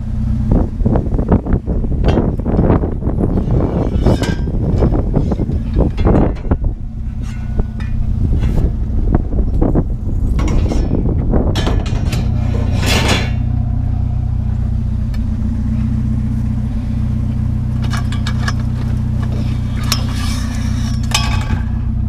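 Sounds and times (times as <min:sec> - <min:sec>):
vehicle engine idling: 0:00.0 - 0:22.0
metal scrap clanking and scraping: 0:02.0 - 0:22.0.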